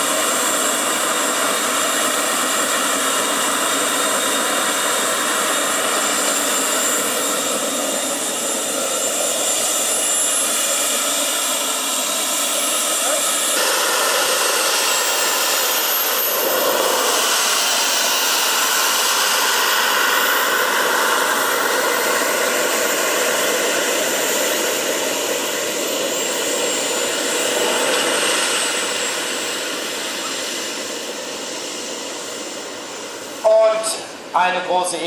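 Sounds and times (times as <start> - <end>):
model jet turbines running: 0.0 - 35.0.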